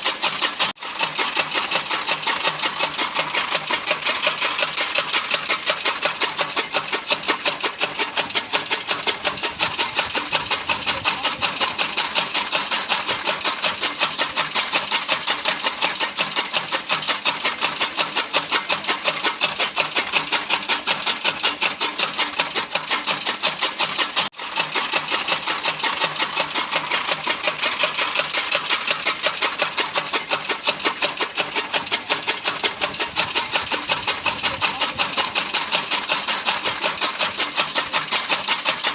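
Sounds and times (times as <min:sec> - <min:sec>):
chaff cutter running: 0:00.0 - 0:38.9.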